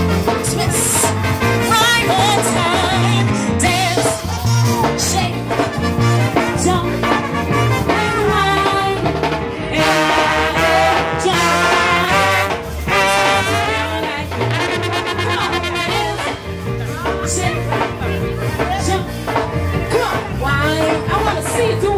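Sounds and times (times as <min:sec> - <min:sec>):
brass band playing: 0:00.0 - 0:21.9.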